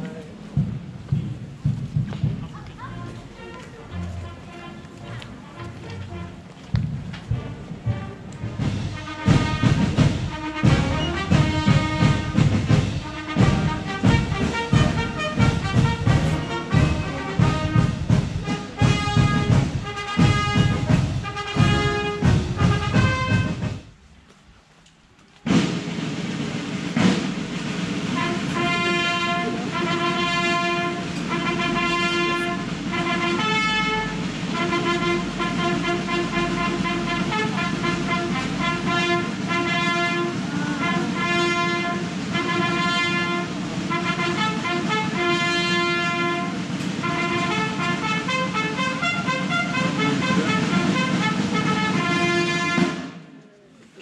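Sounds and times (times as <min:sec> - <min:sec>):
brass band playing: 0:02.6 - 0:24.0, 0:25.5 - 0:53.3.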